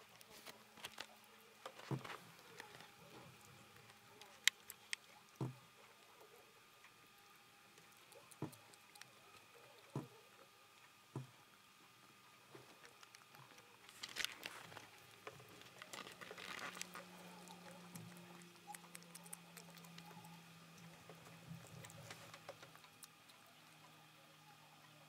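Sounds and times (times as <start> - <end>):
cat eating: 0.1 - 25.0.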